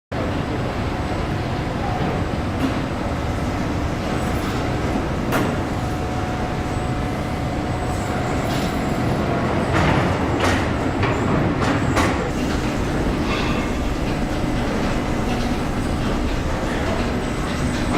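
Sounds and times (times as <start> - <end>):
steady machine whine: 0.2 - 17.9
industrial machinery din: 1.9 - 17.9.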